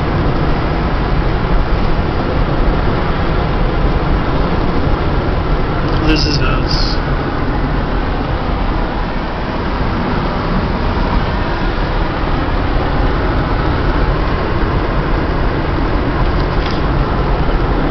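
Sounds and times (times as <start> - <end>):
car road and wind noise: 0.0 - 17.9.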